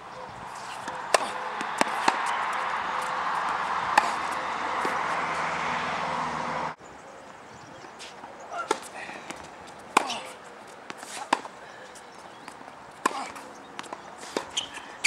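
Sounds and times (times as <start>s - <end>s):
racket hitting tennis ball: 0.4s - 6.7s, 7.9s - 11.6s, 12.3s - 15.0s.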